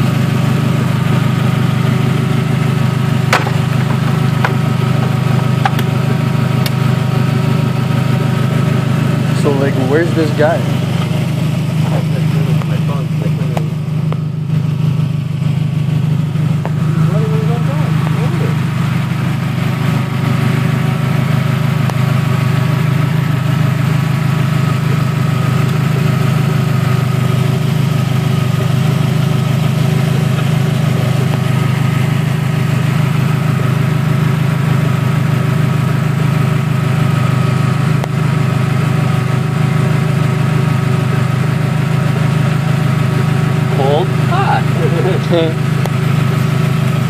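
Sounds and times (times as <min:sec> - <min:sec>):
car engine idling loudly: 0:00.0 - 0:47.0.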